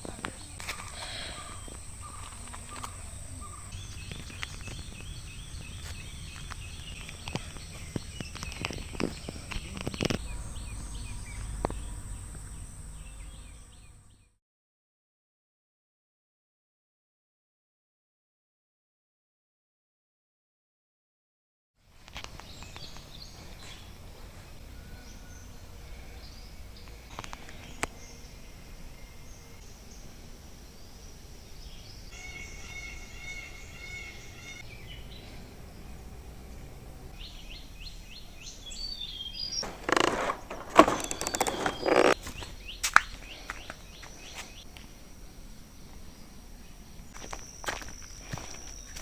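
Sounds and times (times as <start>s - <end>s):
birds chirping: 0.0s - 14.4s, 21.9s - 49.0s.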